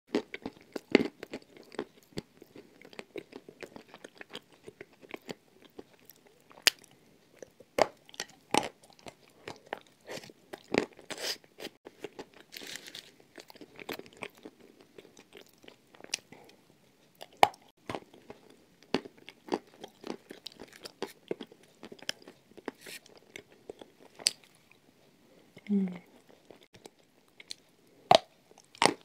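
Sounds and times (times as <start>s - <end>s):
crunchy chewing: 0.1s - 16.6s, 17.2s - 24.8s.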